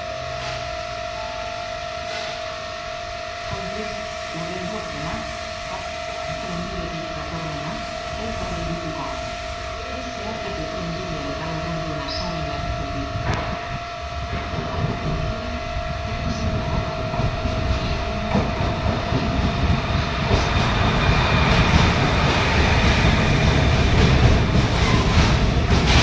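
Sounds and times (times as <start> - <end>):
freight train rumble: 0.0 - 26.0.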